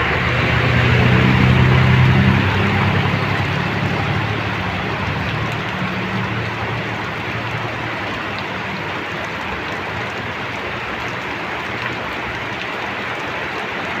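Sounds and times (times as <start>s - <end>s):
low vehicle engine hum: 0.0s - 13.9s
steady rain falling: 0.0s - 14.0s.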